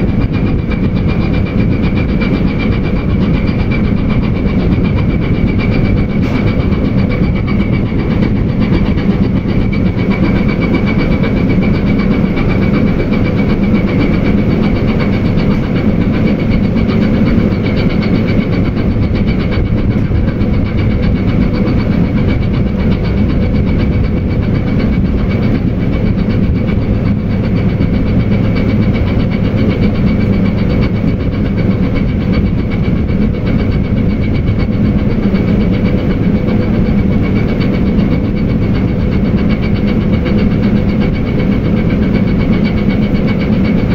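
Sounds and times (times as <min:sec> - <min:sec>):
tugboat diesel engines running: 0:00.0 - 0:43.9.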